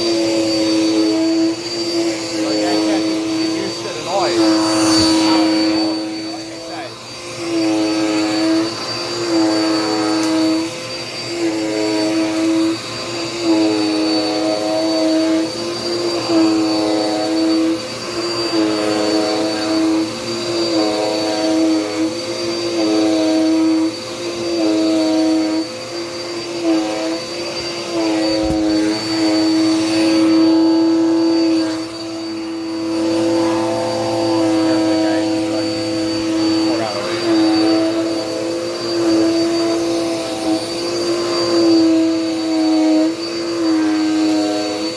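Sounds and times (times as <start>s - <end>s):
vacuum cleaner motor whine: 0.0s - 44.9s.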